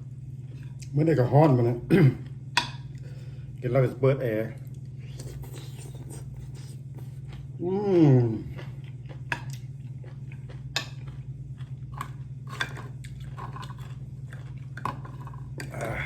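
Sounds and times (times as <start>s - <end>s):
chewing and crunching food: 0.0s - 3.6s, 4.4s - 16.0s
steady low hum: 0.0s - 16.0s.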